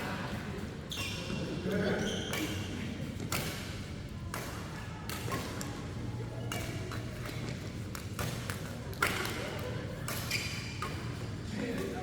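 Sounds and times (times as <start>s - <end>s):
rackets hitting shuttlecock: 1.7s - 5.8s, 6.4s - 12.0s.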